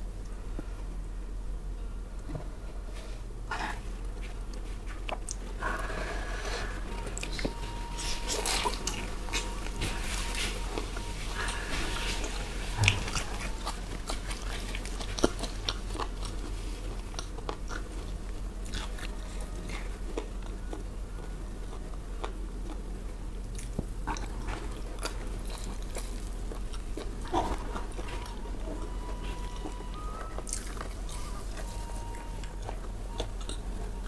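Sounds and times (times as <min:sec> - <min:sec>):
close-miked chewing: 0:03.5 - 0:34.0.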